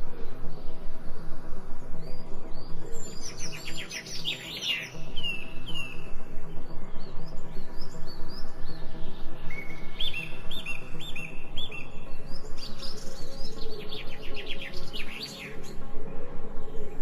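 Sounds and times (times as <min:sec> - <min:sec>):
low background music: 0:00.0 - 0:17.0
songbirds chirping: 0:00.0 - 0:17.0.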